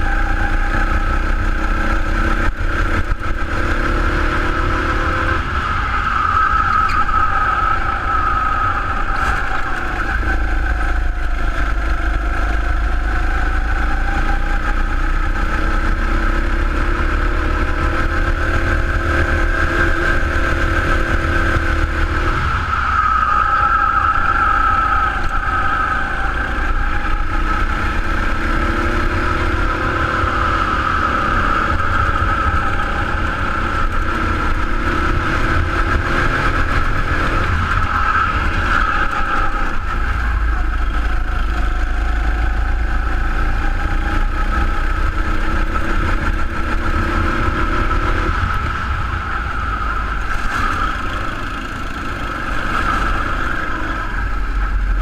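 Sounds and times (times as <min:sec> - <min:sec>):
go-kart engine at full throttle: 0:00.0 - 0:55.0.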